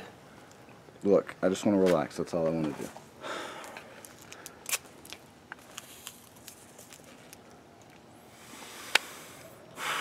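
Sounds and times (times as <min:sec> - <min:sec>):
soft hiss: 0:00.0 - 0:10.0.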